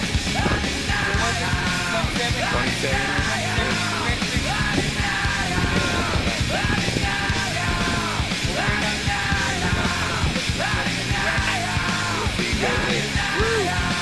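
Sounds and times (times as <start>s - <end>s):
rock music with yelled vocals: 0.0s - 14.0s.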